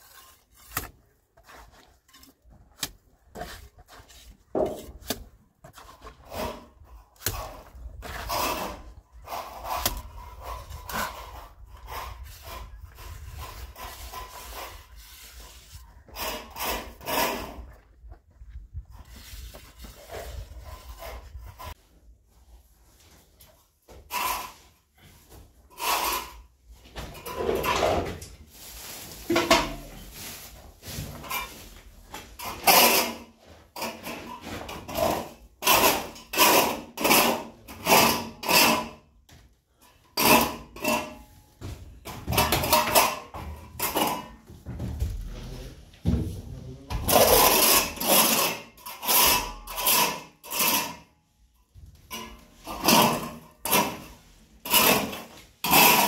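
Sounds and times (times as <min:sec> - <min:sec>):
hand tool scraping: 0:00.0 - 0:21.8, 0:23.0 - 0:39.1, 0:39.7 - 0:45.6, 0:46.8 - 0:51.1, 0:51.7 - 0:56.0.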